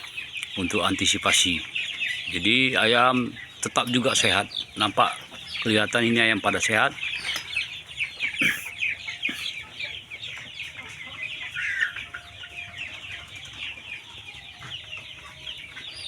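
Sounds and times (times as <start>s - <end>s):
chickens clucking: 0.0s - 16.0s
chicks cheeping: 0.0s - 16.0s.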